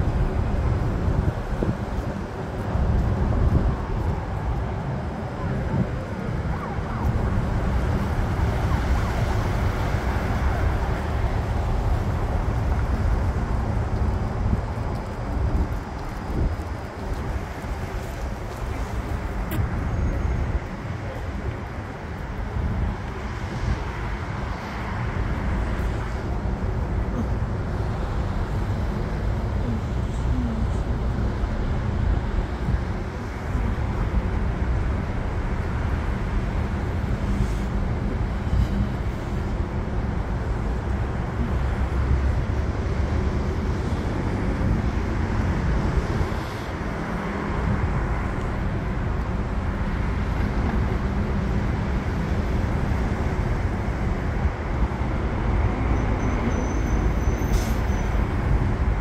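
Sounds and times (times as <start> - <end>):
city road traffic rumble: 0.0 - 59.0.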